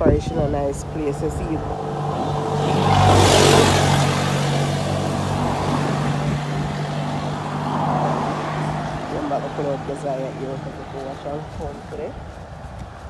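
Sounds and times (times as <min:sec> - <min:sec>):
road noise rush: 0:00.0 - 0:13.0
vehicle engine hum: 0:00.0 - 0:13.0.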